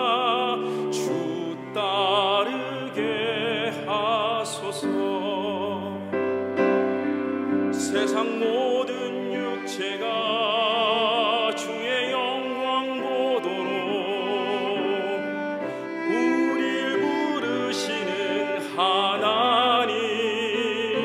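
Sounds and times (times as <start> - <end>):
man singing with vibrato: 0.0 - 6.3, 7.7 - 21.0
bowed cello: 0.0 - 21.0.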